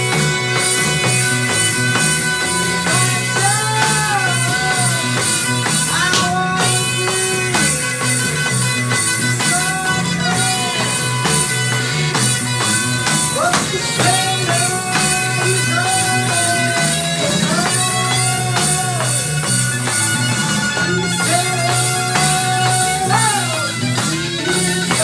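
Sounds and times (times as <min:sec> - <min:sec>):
bass line: 0:00.0 - 0:25.0
drum kit beat: 0:00.0 - 0:25.0
lead guitar with bent notes: 0:00.0 - 0:25.0.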